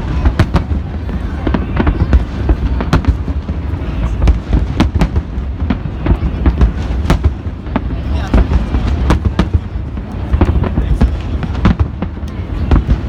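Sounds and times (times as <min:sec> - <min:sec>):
distant fireworks rumble: 0:00.0 - 0:13.0
fireworks bangs and cracks: 0:00.0 - 0:13.0.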